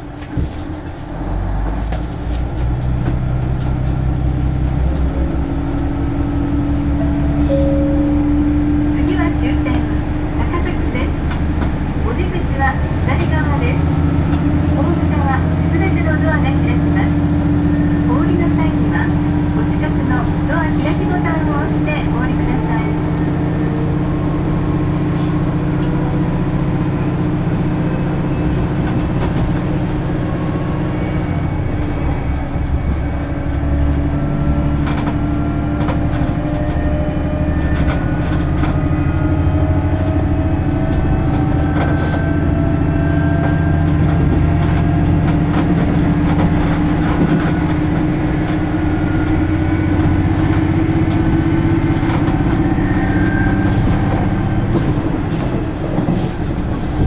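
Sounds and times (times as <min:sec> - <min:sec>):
train engine drone: 0:00.0 - 0:57.0.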